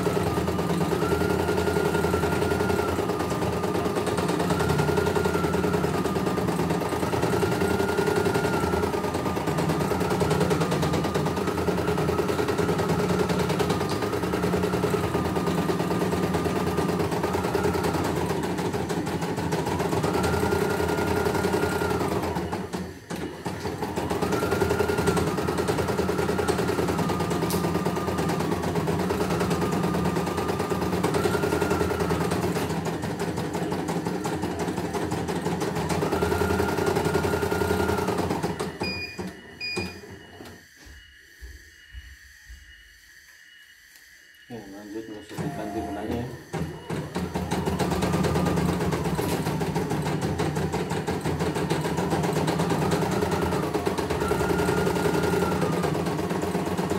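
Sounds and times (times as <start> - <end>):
machine high whine: 0.0 - 56.9.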